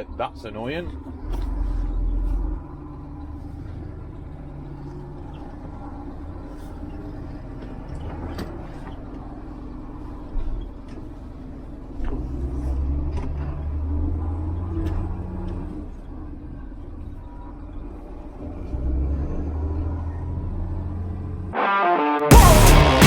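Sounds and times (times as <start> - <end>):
diesel truck engine rumbling: 0.0 - 21.6.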